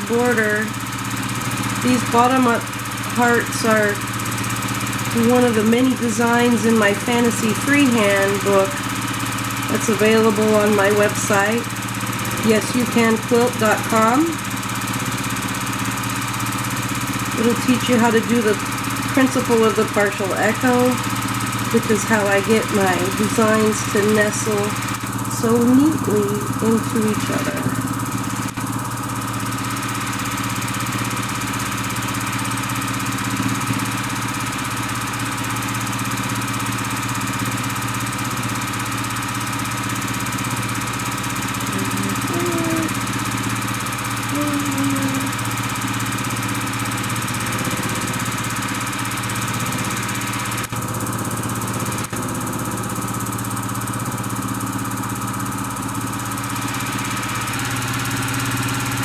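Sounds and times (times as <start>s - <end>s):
sewing machine stitching: 0.0s - 59.0s.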